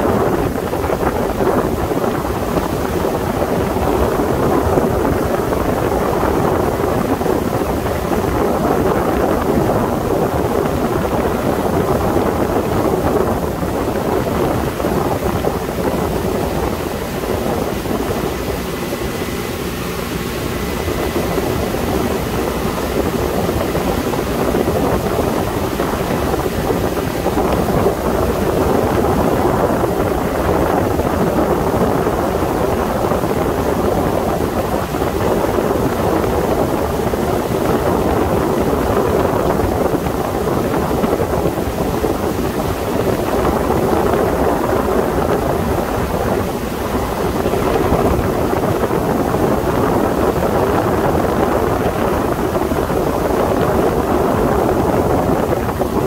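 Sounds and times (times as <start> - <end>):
motorboat engine: 0.0 - 56.0
water along boat hull: 0.0 - 56.0
wind rushing on microphone: 0.0 - 56.0.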